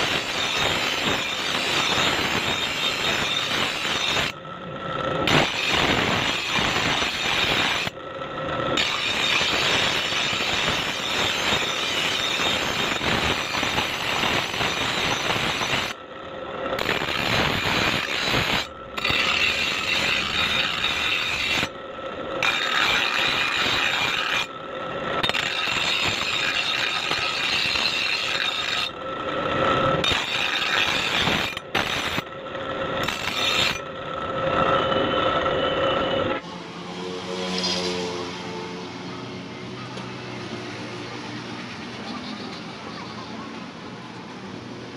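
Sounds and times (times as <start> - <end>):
grinder motor tone: 0.0 - 40.6
grinding wheel on steel: 0.0 - 43.2.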